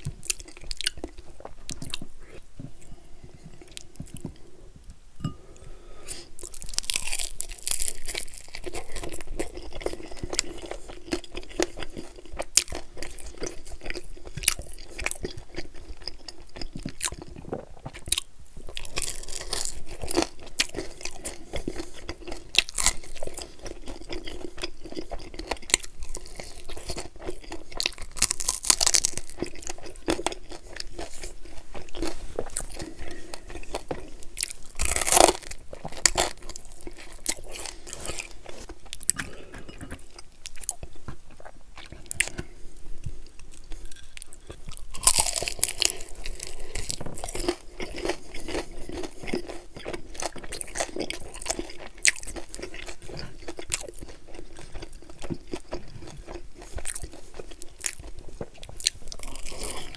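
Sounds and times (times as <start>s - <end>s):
person biting and chewing: 0.0s - 2.4s, 6.1s - 42.6s, 43.5s - 59.9s
crunching: 6.2s - 42.6s, 43.5s - 59.9s.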